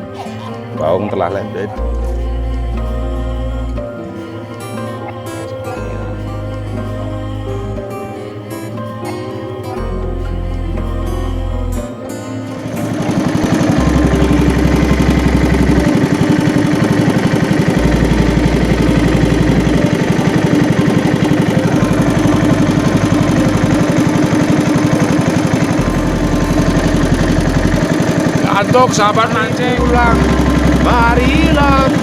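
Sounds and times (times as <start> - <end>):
small engine running: 1.6 - 32.0.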